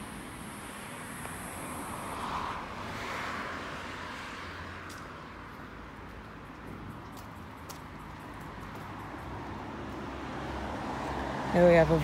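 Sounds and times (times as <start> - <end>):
low traffic rumble: 0.0 - 12.0
vehicle passing: 0.0 - 12.0.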